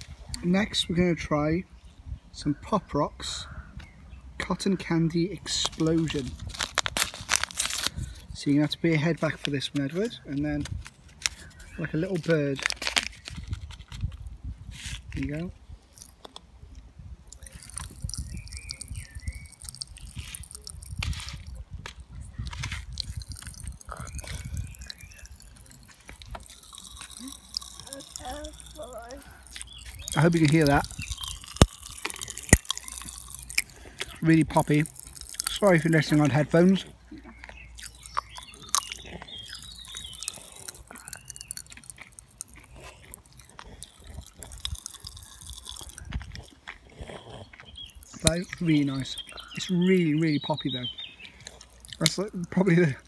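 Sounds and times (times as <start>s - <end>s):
popping candy crackling: 5.5s - 14.3s, 17.3s - 46.8s, 47.7s - 53.0s.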